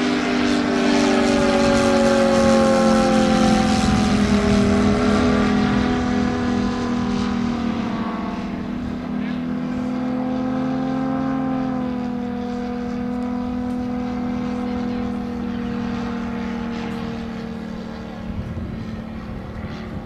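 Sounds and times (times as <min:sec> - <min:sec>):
model plane radial engine: 0:00.0 - 0:20.0.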